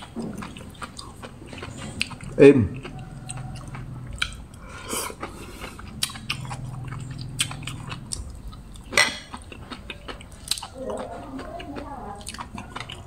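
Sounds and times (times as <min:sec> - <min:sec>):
chewing crisp sea grapes: 0:00.0 - 0:13.0.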